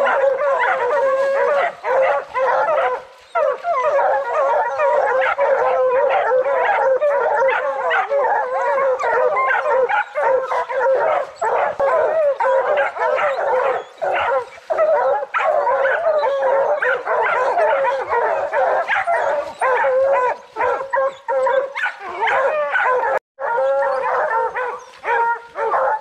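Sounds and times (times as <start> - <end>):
hounds baying and barking: 0.0 - 26.0.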